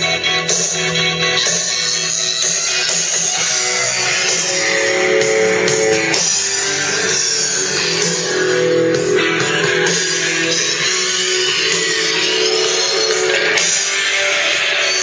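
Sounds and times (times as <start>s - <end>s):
guitar music through speakers: 0.0s - 15.0s.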